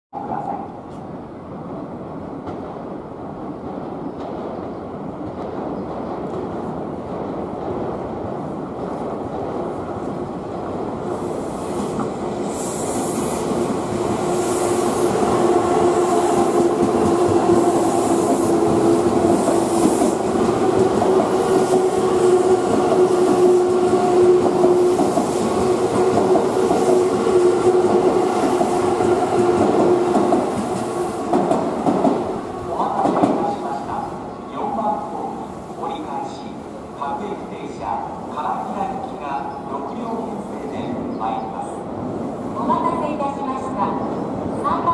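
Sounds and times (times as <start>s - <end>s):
express train passing at speed: 0.2s - 44.9s.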